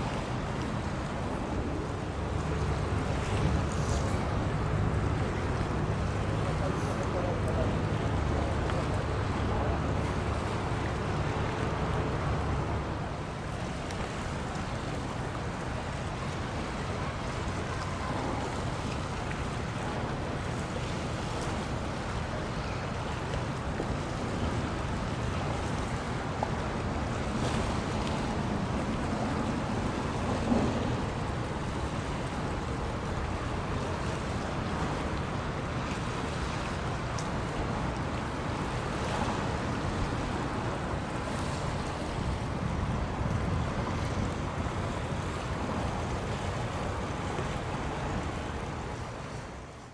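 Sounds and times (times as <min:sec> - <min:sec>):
wind buffeting microphone: 0:00.0 - 0:49.7
small waves at water's edge: 0:00.0 - 0:49.9
wind: 0:00.0 - 0:49.9.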